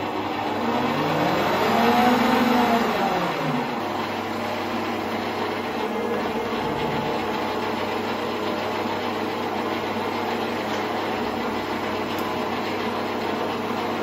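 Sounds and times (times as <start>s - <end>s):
metal lathe running: 0.0s - 14.0s.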